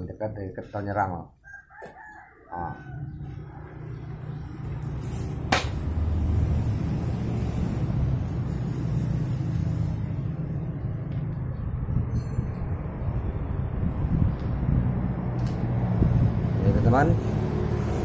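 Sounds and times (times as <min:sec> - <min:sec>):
vehicle engine rumble: 0:02.7 - 0:18.0.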